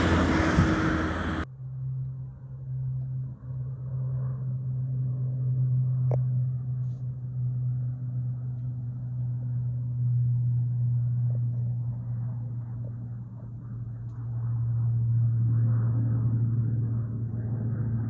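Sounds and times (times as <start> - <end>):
aircraft engines droning: 0.0 - 18.0.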